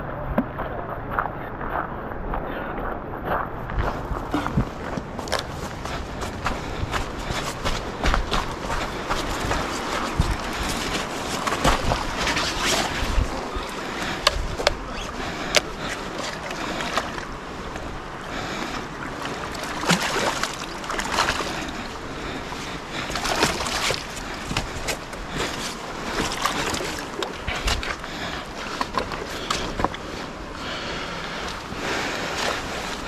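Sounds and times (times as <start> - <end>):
steady rush of noise: 0.0 - 33.0
wind buffeting microphone: 0.0 - 33.0
water splashing: 5.1 - 33.0.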